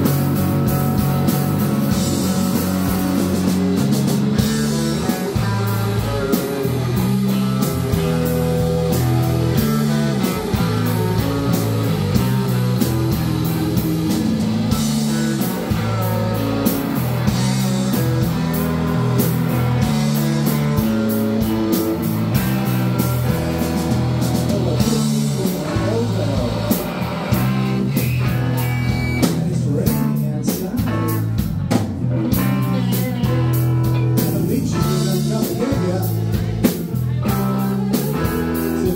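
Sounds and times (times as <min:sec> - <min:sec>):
drum kit beat: 0:00.0 - 0:38.9
electric bass line: 0:00.0 - 0:38.9
electric guitars: 0:00.0 - 0:38.9.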